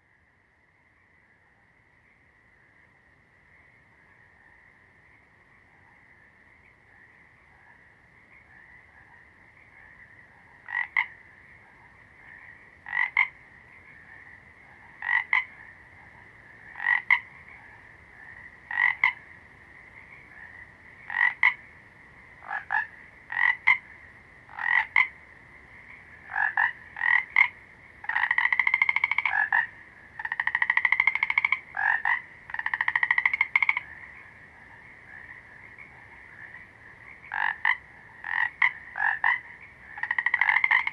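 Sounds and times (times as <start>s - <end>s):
frog croaking: 0.0s - 40.9s.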